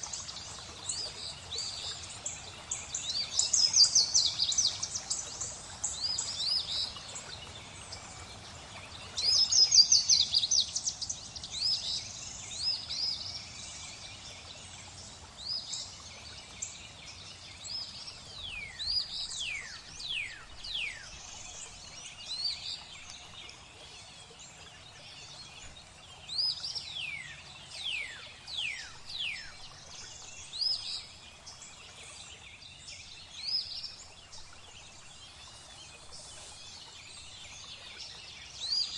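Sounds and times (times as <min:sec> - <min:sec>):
flowing water: 0:00.0 - 0:38.9
songbirds calling: 0:00.0 - 0:38.9.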